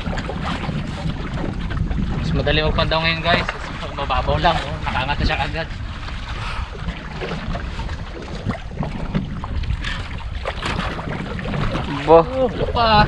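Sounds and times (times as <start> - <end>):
water moving around boat: 0.0 - 13.0
wind buffeting microphone: 0.0 - 13.0.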